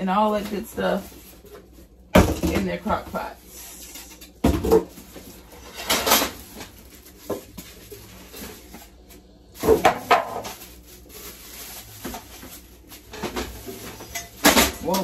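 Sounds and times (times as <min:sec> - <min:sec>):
plastic wrapping rustling: 0:00.0 - 0:15.0.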